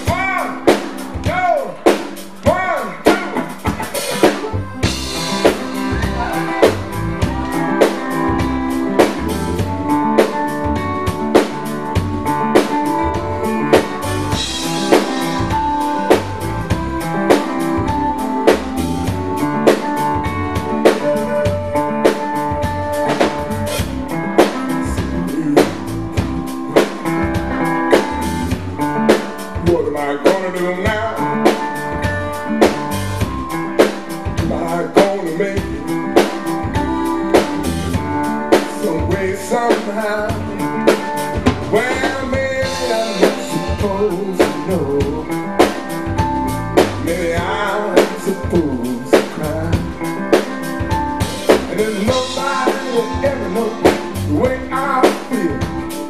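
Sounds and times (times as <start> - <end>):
bass guitar: 0.0 - 56.0
drum kit steady beat: 0.0 - 56.0
electric guitar: 0.0 - 56.0.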